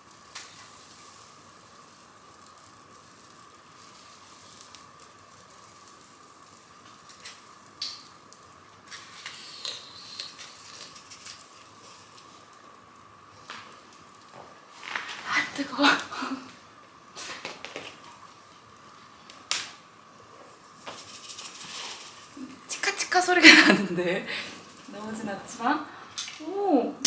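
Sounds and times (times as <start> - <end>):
fire crackling and popping: 0.0 - 27.0
wood fire hissing: 0.0 - 27.0.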